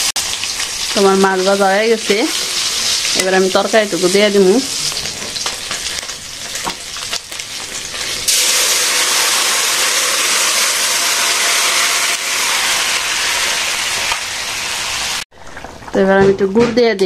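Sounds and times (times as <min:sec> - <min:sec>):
fish sizzling in hot oil: 0:00.0 - 0:15.3
loud hiss of sizzling and steam: 0:00.0 - 0:15.3.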